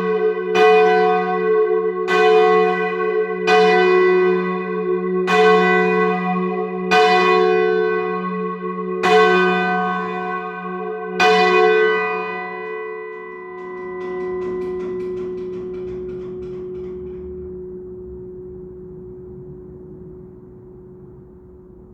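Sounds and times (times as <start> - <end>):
heavy church bells ringing: 0.0 - 21.8.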